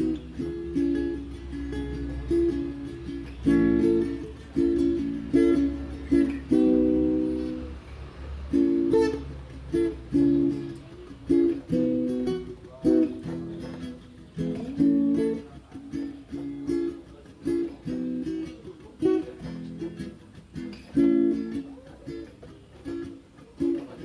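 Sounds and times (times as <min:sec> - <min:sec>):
plucked-string tune: 0:00.0 - 0:24.0.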